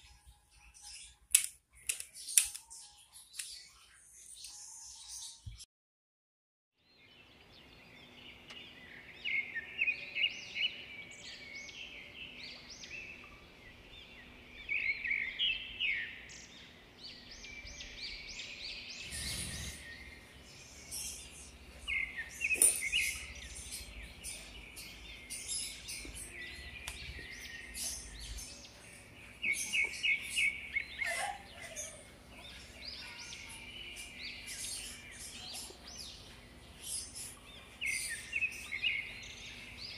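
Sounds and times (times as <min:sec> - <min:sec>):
small birds chirping: 0:00.0 - 0:05.7, 0:06.8 - 0:39.9.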